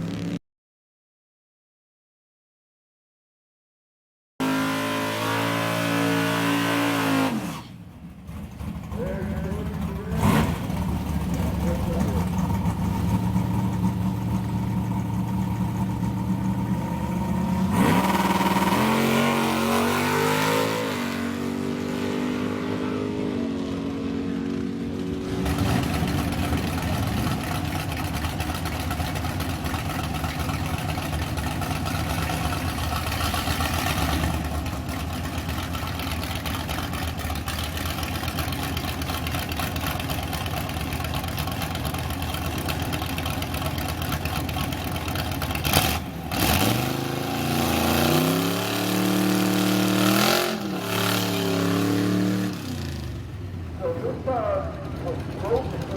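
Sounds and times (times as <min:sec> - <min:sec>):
drag car engine accelerating: 0:00.0 - 0:00.4, 0:04.4 - 0:55.9
engine running steadily: 0:05.0 - 0:55.9.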